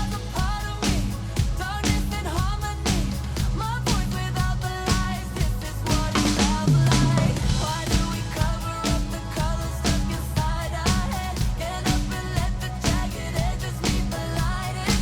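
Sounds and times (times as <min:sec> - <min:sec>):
drum kit beat: 0:00.0 - 0:15.0
pop song: 0:00.0 - 0:15.0.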